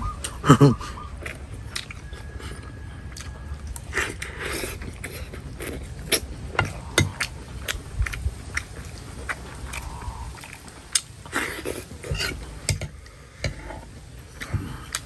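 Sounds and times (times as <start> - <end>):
person chewing: 0.1 - 15.0.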